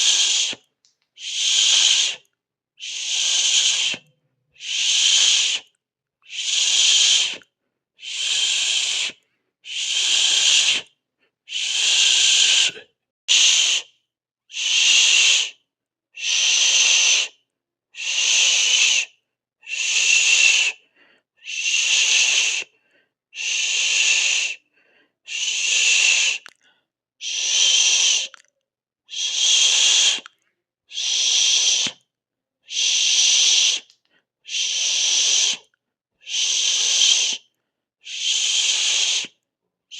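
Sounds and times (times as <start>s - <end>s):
person hissing through teeth: 0.0s - 7.4s, 8.0s - 10.9s, 11.5s - 13.9s, 14.5s - 15.6s, 16.2s - 17.4s, 18.0s - 20.8s, 21.4s - 22.7s, 23.4s - 24.6s, 25.3s - 26.6s, 27.2s - 28.4s, 29.1s - 32.0s, 32.7s - 39.4s.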